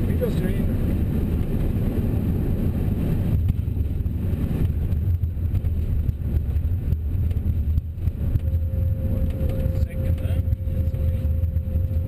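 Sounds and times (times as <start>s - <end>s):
aircraft cockpit rumble: 0.0s - 12.0s.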